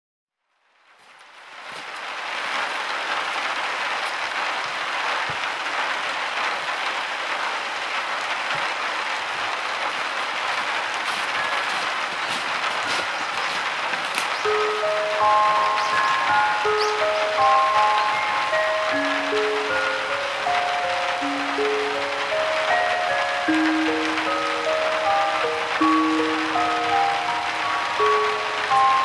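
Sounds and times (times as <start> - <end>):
steady rainfall: 0.8 - 29.0
raindrops ticking: 3.2 - 29.0.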